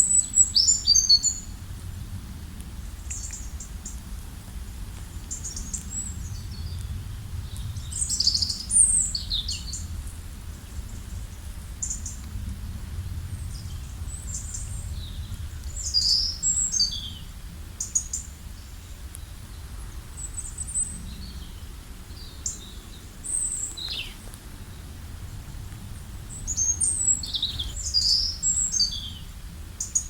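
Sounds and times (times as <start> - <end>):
small birds chirping: 0.0 - 1.6, 2.8 - 4.2, 4.9 - 12.4, 13.2 - 30.0
steady low rumble: 0.0 - 30.0.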